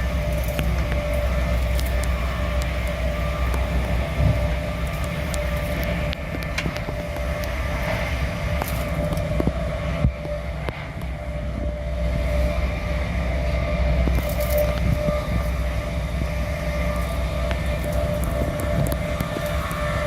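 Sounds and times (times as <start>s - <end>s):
constant whine: 0.0s - 20.0s
train rumbling along track: 0.0s - 20.0s.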